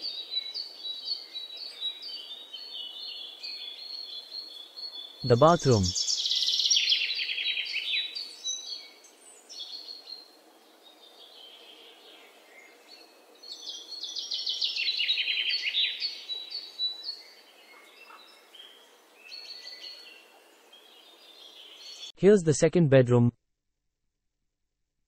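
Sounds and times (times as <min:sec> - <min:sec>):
birds chirping in trills: 0:00.0 - 0:22.2.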